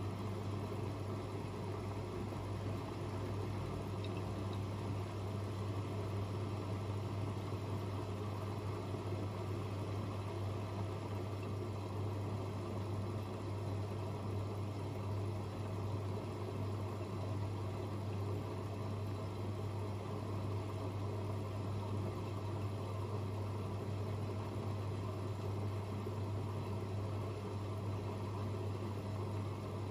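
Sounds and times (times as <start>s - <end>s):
washing machines running: 0.0s - 29.9s.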